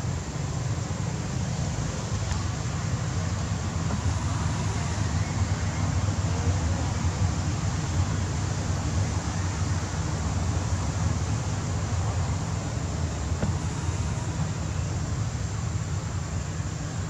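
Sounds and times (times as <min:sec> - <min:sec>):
low rumble and hiss: 0:00.0 - 0:17.0.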